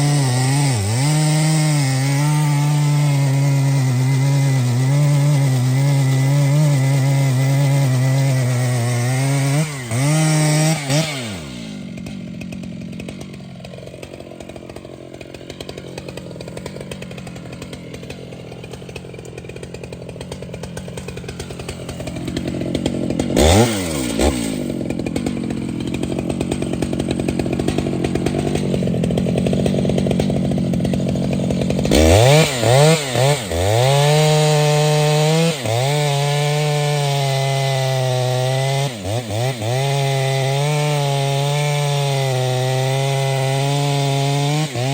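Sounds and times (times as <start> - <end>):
chainsaw running: 0.0 - 44.9.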